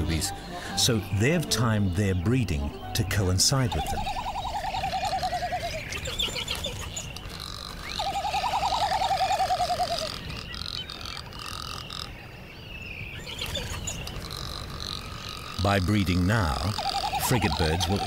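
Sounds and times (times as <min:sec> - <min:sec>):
frigatebird warbling trill: 0:00.0 - 0:12.1, 0:13.2 - 0:18.0
faint high-pitched bird calls: 0:02.7 - 0:18.0.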